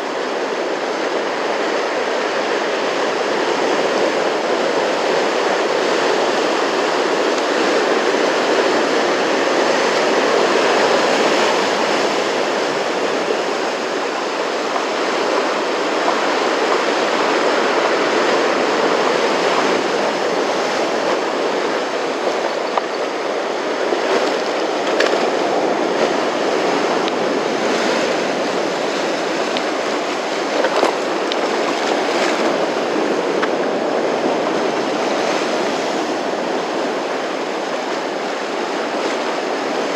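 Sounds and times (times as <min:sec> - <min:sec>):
surf washing and breaking: 0:00.0 - 0:39.9.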